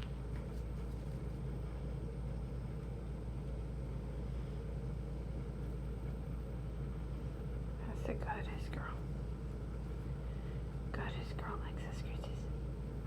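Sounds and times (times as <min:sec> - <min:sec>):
low background hum and rumble: 0:00.0 - 0:13.0.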